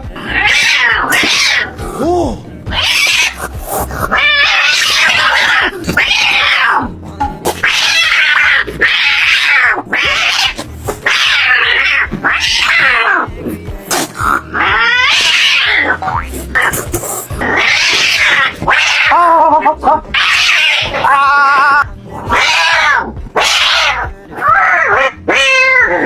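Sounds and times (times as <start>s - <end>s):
cat yowling: 0.0s - 6.9s, 7.5s - 13.3s, 13.9s - 26.0s.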